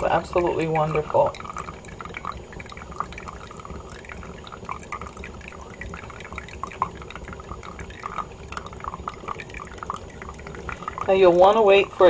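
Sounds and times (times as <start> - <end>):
espresso dripping: 0.0 - 12.0
low machine hum: 0.0 - 12.0.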